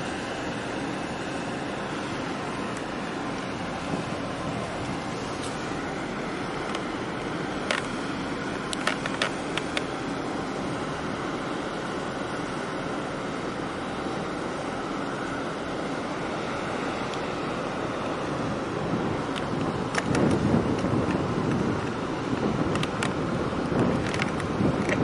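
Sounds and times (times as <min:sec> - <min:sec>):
harbour water rushing: 0:00.0 - 0:25.0
wind: 0:00.0 - 0:25.0.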